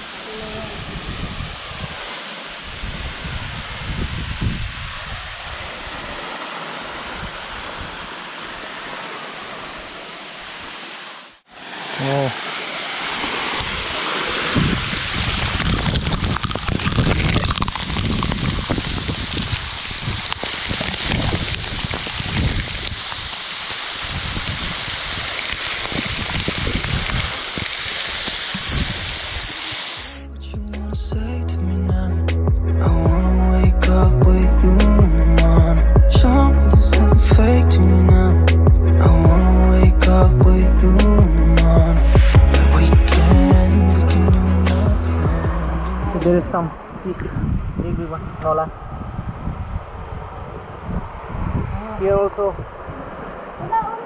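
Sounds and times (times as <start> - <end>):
waterfall rushing: 0.0 - 30.2, 30.8 - 47.3
wind buffeting on microphone: 0.3 - 8.7, 13.2 - 23.4, 24.0 - 29.6, 30.6 - 54.0.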